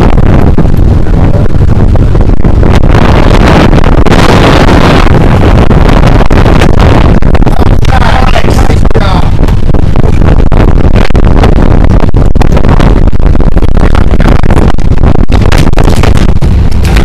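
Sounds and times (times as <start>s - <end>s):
motorboat engine drone: 0.0s - 17.0s
wind buffeting microphone: 0.0s - 17.0s.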